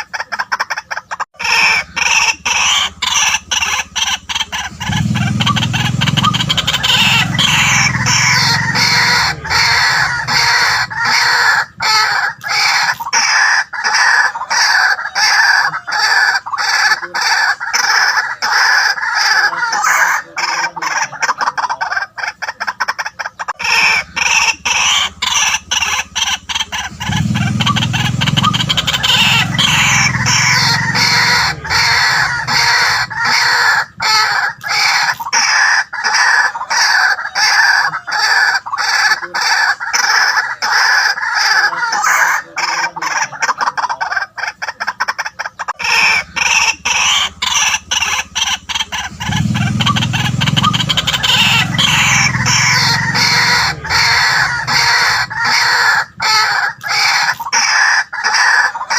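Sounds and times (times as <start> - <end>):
bird calling rapid notes: 0.0 - 58.9.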